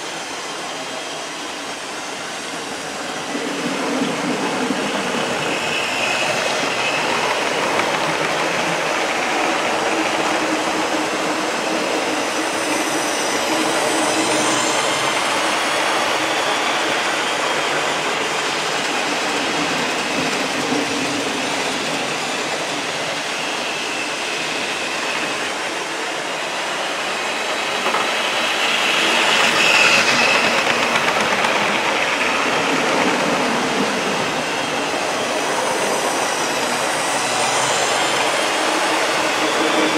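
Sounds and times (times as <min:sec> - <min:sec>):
model trains whirring and rattling: 0:00.0 - 0:39.9.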